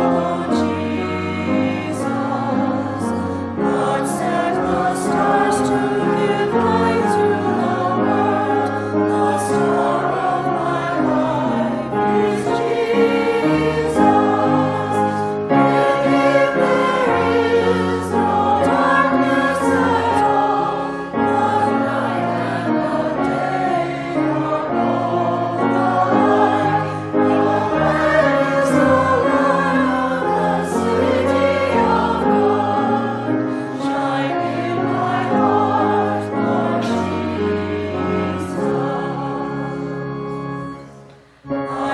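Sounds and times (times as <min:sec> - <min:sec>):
choir singing held chords: 0:00.0 - 0:41.9.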